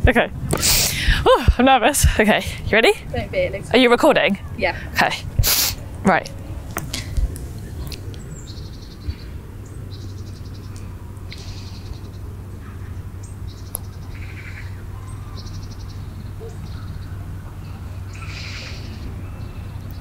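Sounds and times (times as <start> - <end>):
low outdoor rumble: 0.0 - 20.0
small birds trilling: 2.8 - 20.0.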